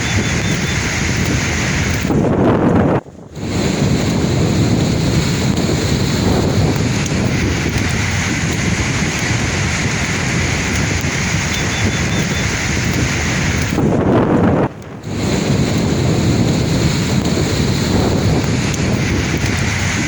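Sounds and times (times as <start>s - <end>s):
sea waves washing in: 0.0s - 20.0s
wind buffeting microphone: 0.0s - 20.0s.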